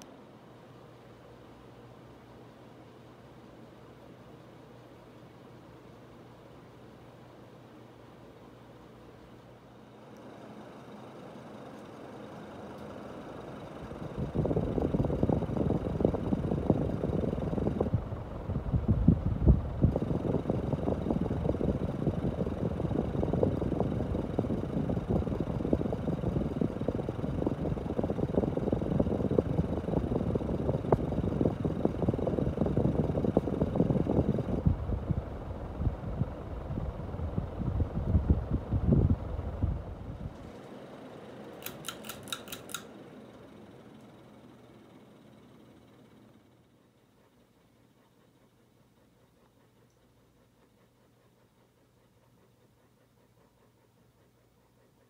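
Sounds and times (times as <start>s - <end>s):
ceiling fan rushing: 0.0s - 55.0s.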